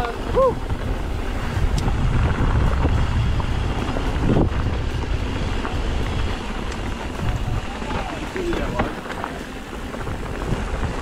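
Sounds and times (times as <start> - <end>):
bike tyres rolling on dirt: 0.0 - 11.0
wind buffeting microphone: 0.0 - 11.0.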